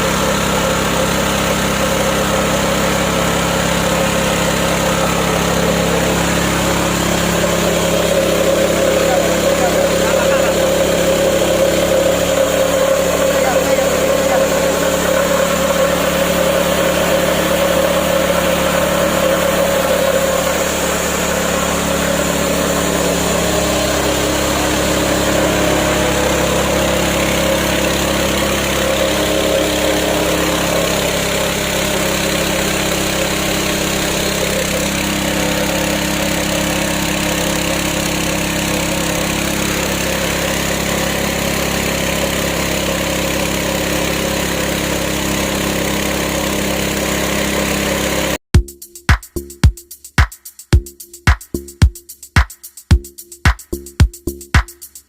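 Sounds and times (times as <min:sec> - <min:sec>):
rice mill motor humming: 0:00.0 - 0:48.4.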